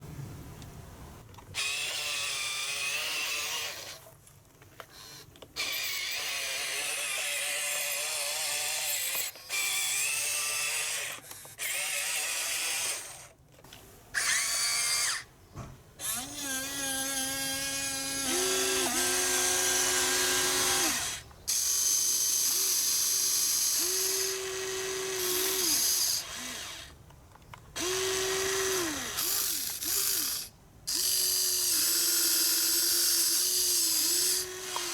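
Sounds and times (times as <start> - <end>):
toy excavator motors whirring: 1.4 - 15.3, 16.0 - 34.9.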